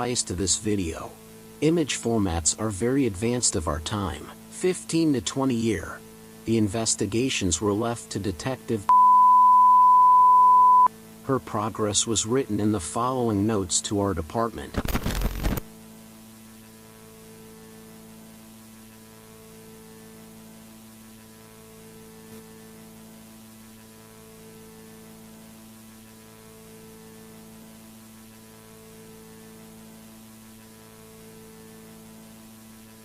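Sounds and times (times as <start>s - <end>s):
electrical hum: 0.0s - 33.0s
static hiss: 0.0s - 33.0s.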